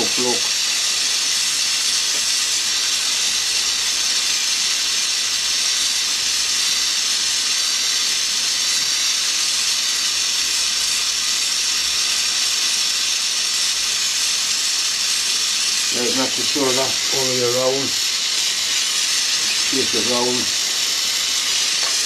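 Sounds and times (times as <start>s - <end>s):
torch flame hissing: 0.0s - 22.0s.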